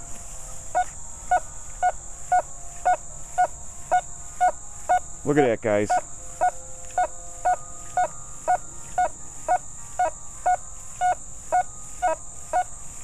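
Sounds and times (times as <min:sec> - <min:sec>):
metal detector beeping: 0:00.0 - 0:13.0.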